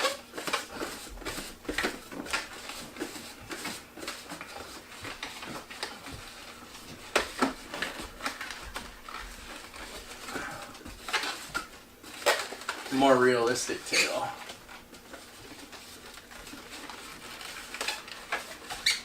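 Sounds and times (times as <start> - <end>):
balloon squeaking: 0.0 - 19.0.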